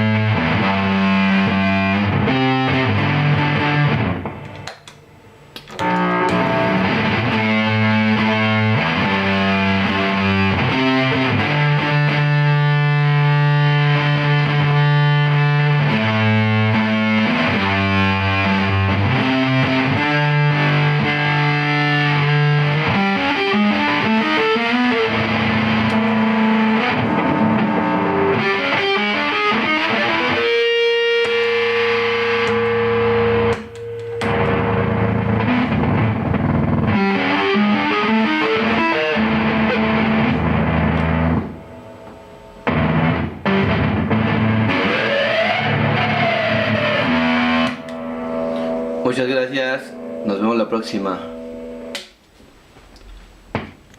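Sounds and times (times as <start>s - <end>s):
distorted electric guitar: 0.0s - 52.2s.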